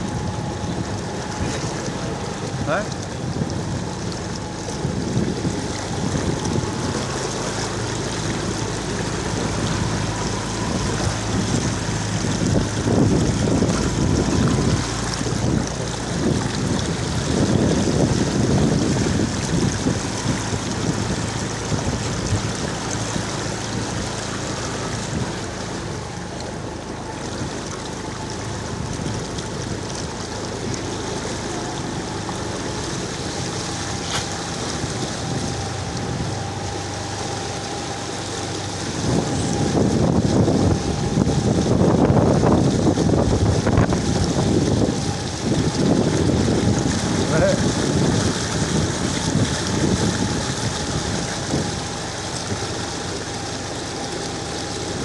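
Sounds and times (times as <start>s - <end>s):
water rushing and sloshing: 0.0s - 55.0s
wind buffeting microphone: 0.0s - 55.0s.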